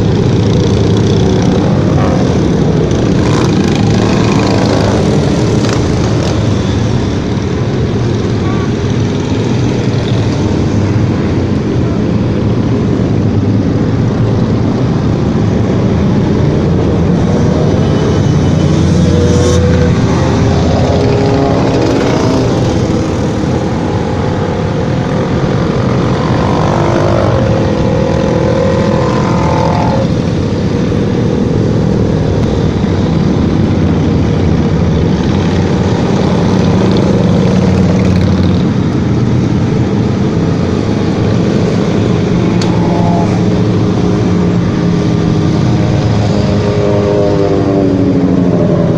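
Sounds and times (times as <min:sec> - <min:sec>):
motorcycle engines rumbling: 0:00.0 - 0:48.9.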